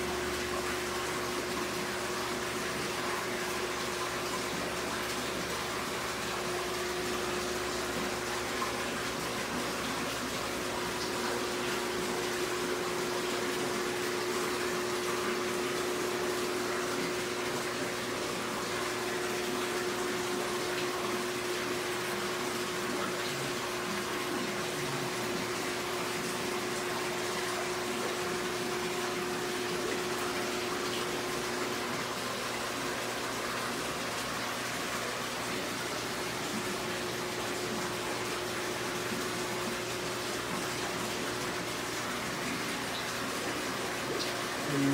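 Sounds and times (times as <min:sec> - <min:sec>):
filter water rushing and bubbling: 0:00.0 - 0:44.9.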